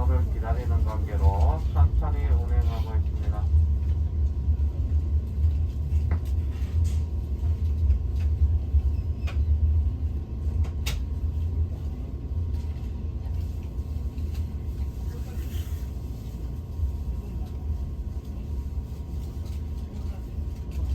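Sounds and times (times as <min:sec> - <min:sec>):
train carriage rumbling: 0:00.0 - 0:20.9.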